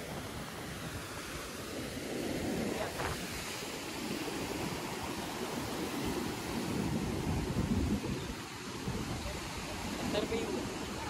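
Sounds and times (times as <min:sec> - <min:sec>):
sea surf breaking over rocks: 0:00.0 - 0:11.0.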